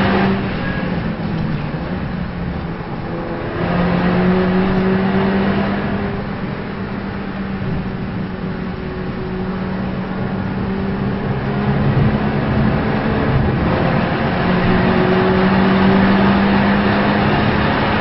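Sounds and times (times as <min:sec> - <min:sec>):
race car engine drone: 0:00.0 - 0:18.0.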